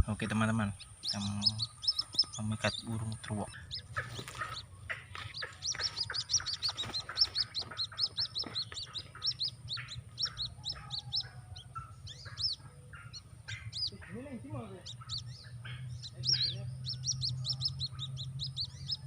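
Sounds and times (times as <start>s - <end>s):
chick peeping: 0.0s - 19.0s
low clucking calls: 0.0s - 19.0s.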